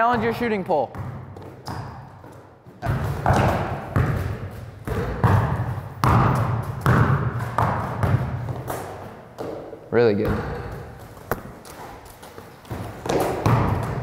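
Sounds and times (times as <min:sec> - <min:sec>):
basketballs bouncing in gym: 0:00.0 - 0:14.0.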